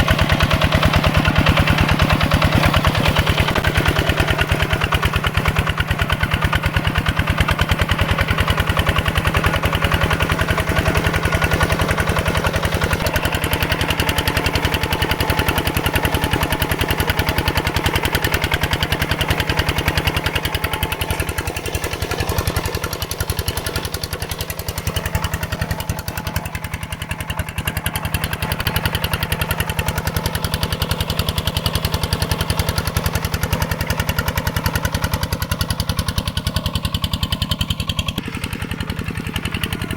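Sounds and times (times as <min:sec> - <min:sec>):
diesel tractor engine putter: 0:00.0 - 0:39.9.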